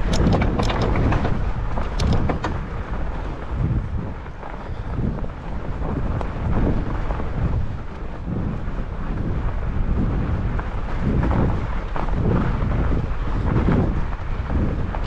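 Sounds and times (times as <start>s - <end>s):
fat tyres rumbling over snow: 0.0s - 15.0s
wind buffeting microphone: 0.0s - 15.0s.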